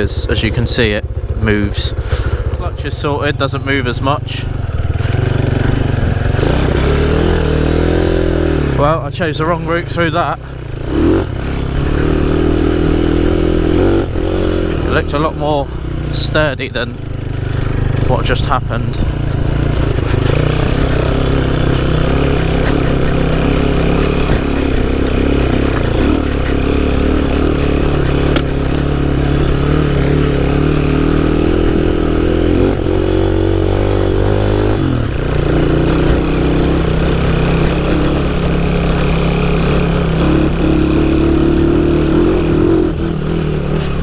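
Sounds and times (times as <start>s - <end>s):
motorbike engine revving: 0.0s - 44.0s.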